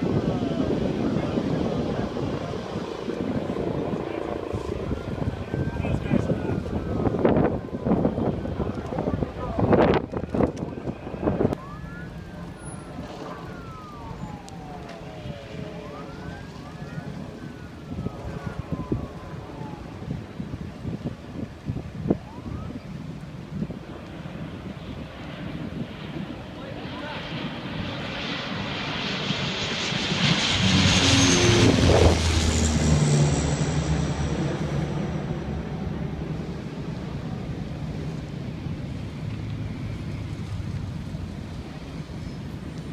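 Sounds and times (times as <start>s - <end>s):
airplane flying low past: 0.0s - 42.9s
emergency siren wailing: 0.0s - 42.9s
low vehicle rumble: 0.0s - 42.9s.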